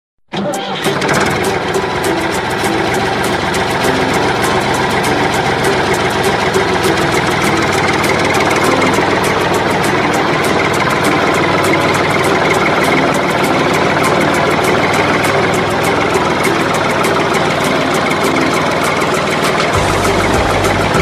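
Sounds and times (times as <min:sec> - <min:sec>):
rapid even ticking: 0:00.8 - 0:21.0
diesel engine running under load: 0:00.9 - 0:21.0.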